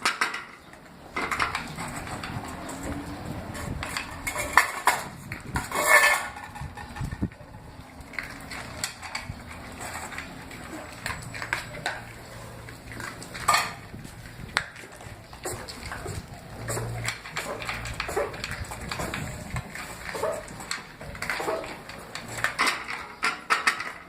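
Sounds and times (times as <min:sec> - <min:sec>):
small hard objects clinking: 0:00.0 - 0:24.0.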